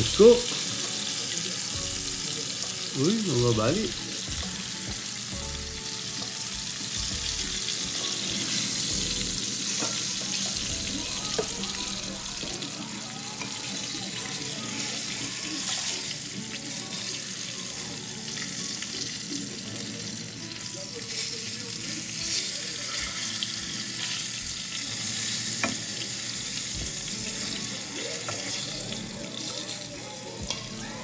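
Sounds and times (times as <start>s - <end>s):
faint music: 0.0s - 31.0s
fish sizzling in a pan: 0.0s - 31.0s.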